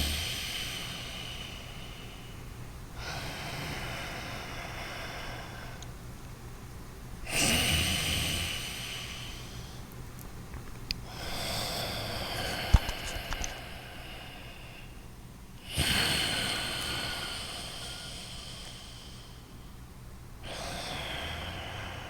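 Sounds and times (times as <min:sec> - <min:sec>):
loud breathing through nose: 0:00.0 - 0:05.9, 0:07.3 - 0:09.9, 0:11.0 - 0:19.8, 0:20.4 - 0:22.0.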